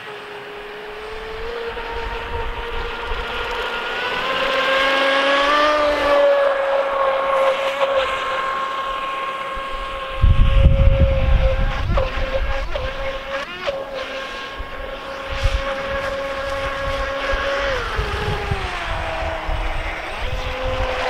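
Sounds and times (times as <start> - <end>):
rc boat motor whining: 0.0 - 21.0
wind rumble on microphone: 0.8 - 13.4, 14.3 - 21.0.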